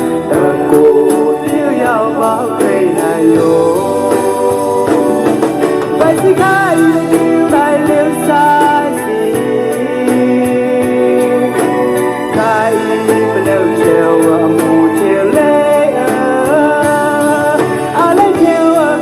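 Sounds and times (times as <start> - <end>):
song with wavering melody: 0.0 - 19.0.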